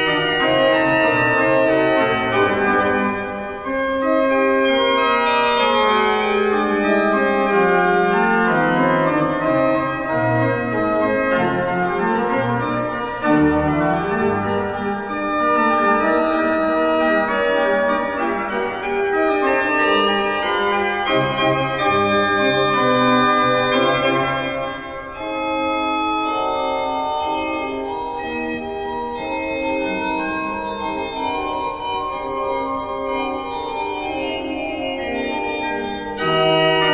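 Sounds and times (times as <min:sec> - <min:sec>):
pipe organ playing slow piece: 0:00.0 - 0:36.9.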